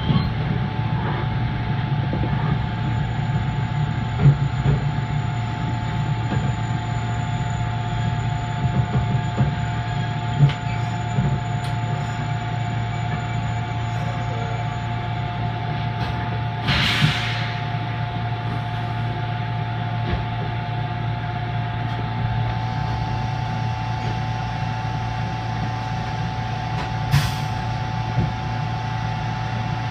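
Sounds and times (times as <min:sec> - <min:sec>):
train low hum and whine: 0:00.0 - 0:29.9.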